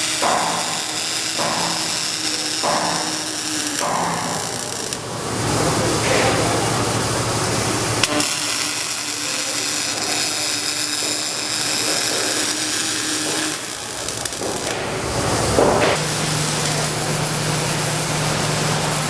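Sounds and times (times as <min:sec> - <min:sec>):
welding arc hissing crackle: 0:00.0 - 0:19.0.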